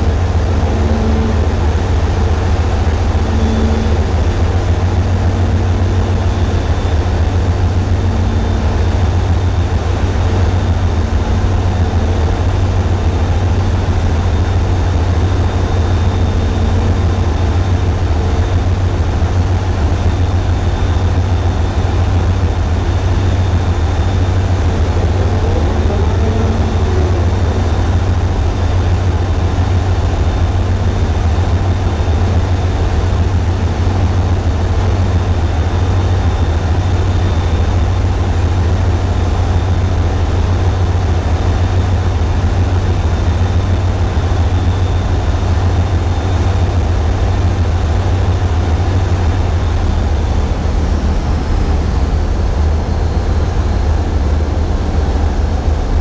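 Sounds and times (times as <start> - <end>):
diesel engines droning: 0.0 - 56.0
steady hum: 0.0 - 56.0.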